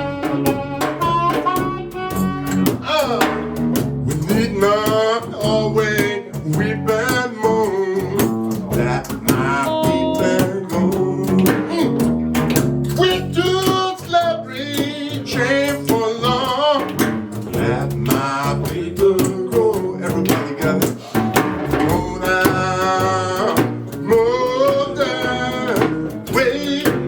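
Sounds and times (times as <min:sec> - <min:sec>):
bending harmonica lead: 0:00.0 - 0:26.8
bass with steady beat: 0:00.0 - 0:27.0
strummed guitar: 0:00.0 - 0:27.0.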